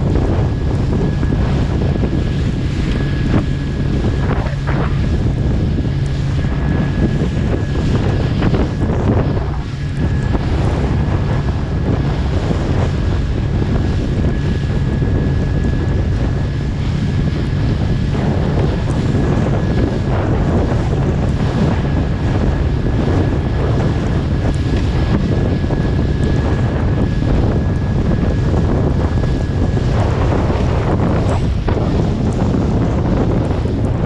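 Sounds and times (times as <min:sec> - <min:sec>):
boat engine drone: 0:00.0 - 0:34.0
sea washing around hull: 0:00.0 - 0:34.0
thin steady whine: 0:00.0 - 0:34.0
wind buffeting microphone: 0:00.0 - 0:34.0.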